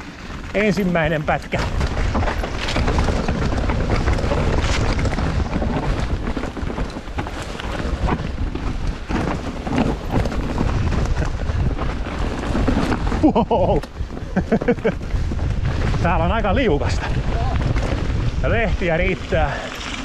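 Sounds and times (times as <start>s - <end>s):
bike rattling over bumps: 0.0s - 20.0s
bike tyre noise: 0.0s - 20.0s
wind buffeting microphone: 0.0s - 20.0s.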